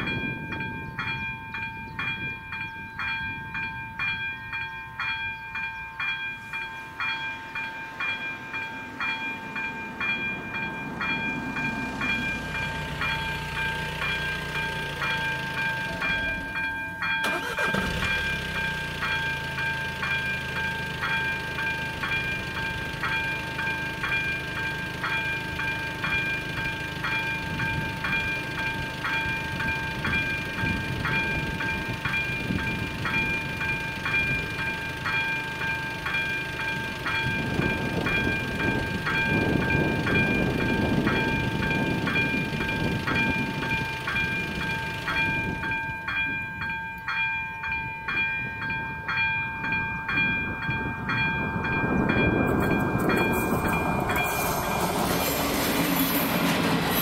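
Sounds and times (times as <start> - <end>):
level-crossing warning bell: 0.0 - 57.0
train rumble: 0.0 - 57.0.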